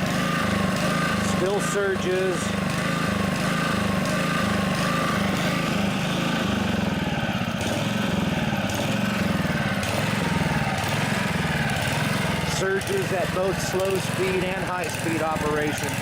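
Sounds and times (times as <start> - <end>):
lawnmower engine surging: 0.0 - 16.0.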